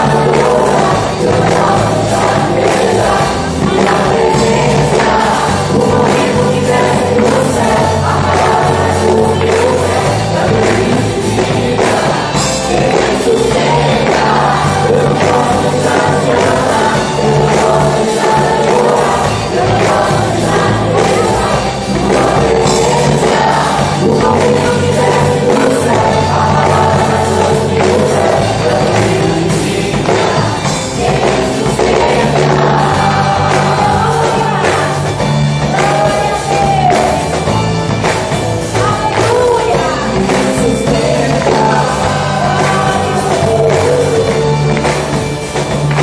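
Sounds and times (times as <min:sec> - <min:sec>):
band playing: 0:00.0 - 0:46.0
group of voices singing: 0:00.0 - 0:46.0.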